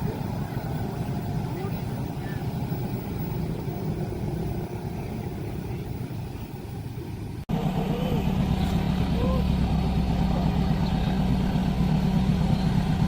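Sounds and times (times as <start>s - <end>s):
low rumble of vehicle engines: 0.0s - 13.0s.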